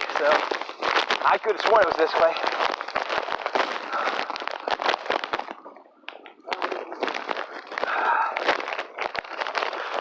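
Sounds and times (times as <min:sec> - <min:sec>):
footsteps crunching on trail: 0:00.0 - 0:05.7, 0:06.6 - 0:10.0.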